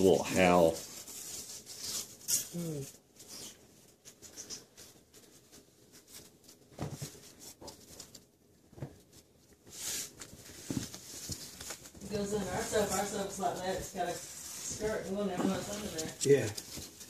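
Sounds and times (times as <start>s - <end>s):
puppy sniffing and scuffling: 0.0s - 17.0s
soft rustles and clicks: 0.3s - 17.0s.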